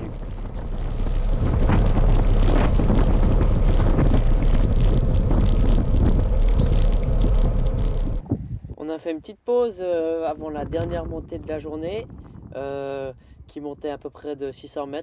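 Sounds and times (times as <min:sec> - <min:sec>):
wind rumbling on microphone: 0:00.0 - 0:08.8, 0:09.8 - 0:15.0.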